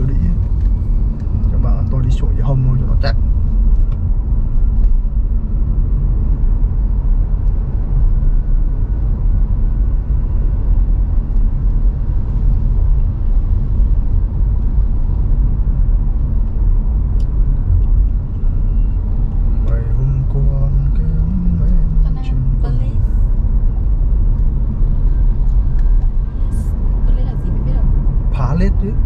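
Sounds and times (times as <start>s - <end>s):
road and tyre rumble: 0.0s - 29.0s.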